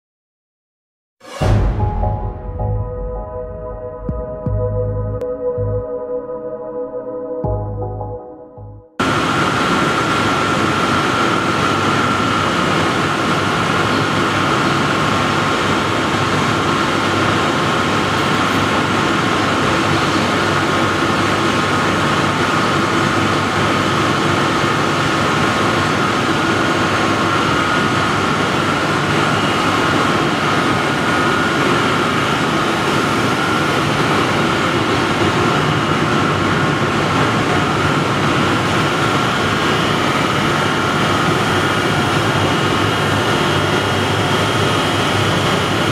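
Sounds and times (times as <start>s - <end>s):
high machine whine: 9.0s - 45.9s
loud machinery noise: 9.0s - 45.9s.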